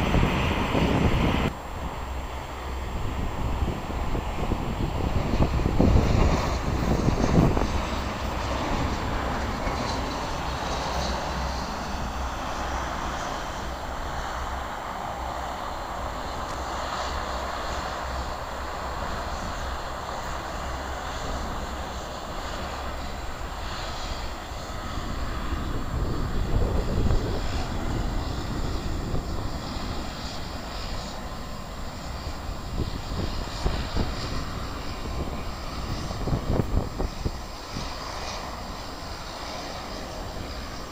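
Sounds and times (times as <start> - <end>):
airliner engines running: 0.0 - 40.9.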